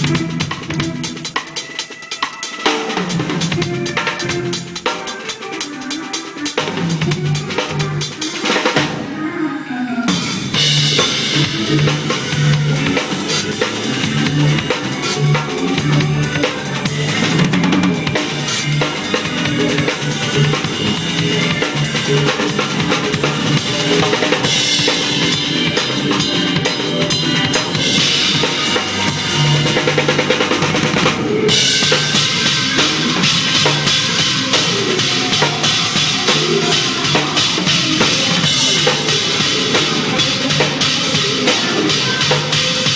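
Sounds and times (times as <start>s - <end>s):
band track with bass line: 0.0s - 9.1s, 10.1s - 42.9s
drum kit playing: 0.0s - 9.1s, 10.1s - 42.9s.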